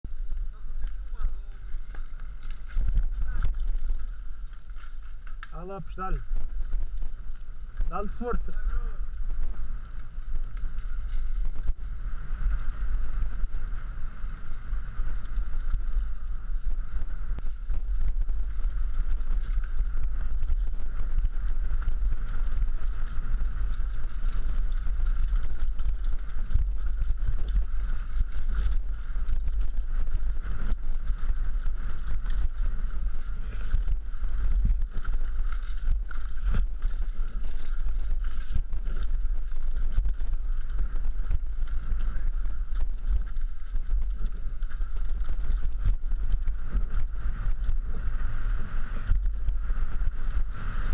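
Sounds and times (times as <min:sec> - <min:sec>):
bike rattling: 0:00.0 - 0:50.9
wind buffeting microphone: 0:00.0 - 0:50.9.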